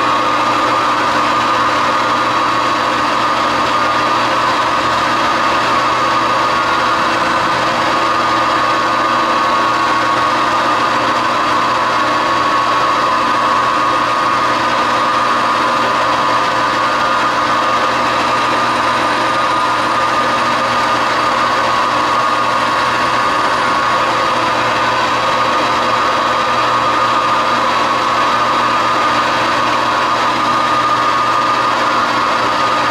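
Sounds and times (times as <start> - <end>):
metal lathe humming: 0.0 - 32.9.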